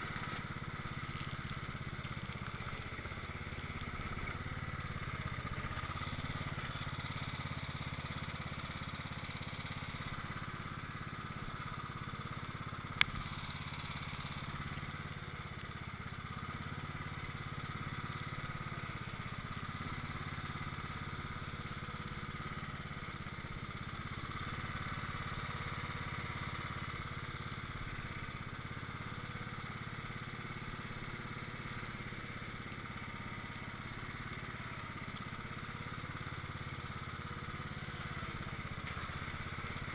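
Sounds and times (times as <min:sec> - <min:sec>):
lawn tractor engine running: 0:00.0 - 0:39.9
plow blade pushing snow: 0:00.0 - 0:39.9.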